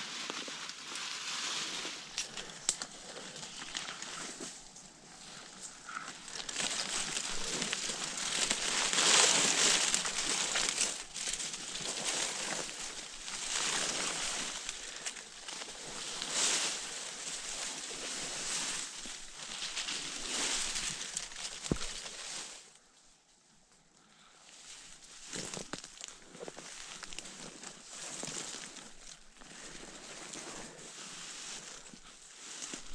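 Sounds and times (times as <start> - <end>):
rustling through undergrowth: 0.0 - 32.9.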